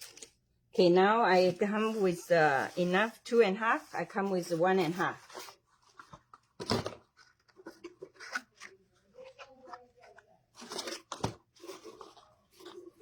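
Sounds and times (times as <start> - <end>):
ribbon crinkling and rustling: 0.0 - 13.0.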